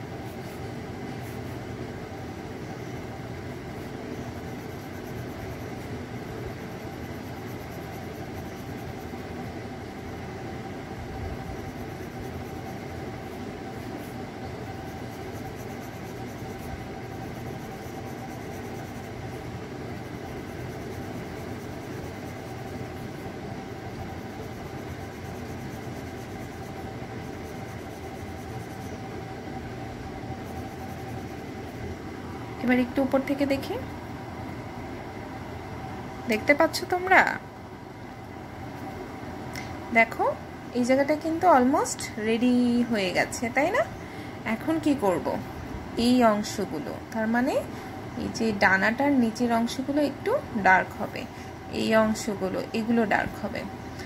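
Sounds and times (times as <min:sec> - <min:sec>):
mechanical hum and hiss: 0:00.0 - 0:54.0.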